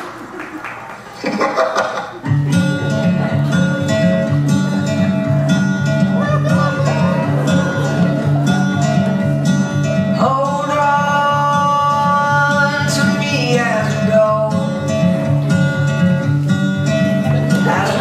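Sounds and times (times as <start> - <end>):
guitar: 0.0 - 18.0.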